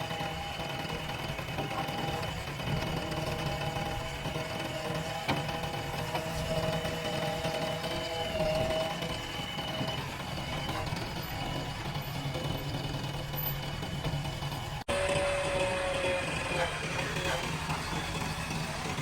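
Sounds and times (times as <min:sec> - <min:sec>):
diesel engine clattering: 0:00.0 - 0:19.0
high mechanical whine: 0:00.0 - 0:19.0.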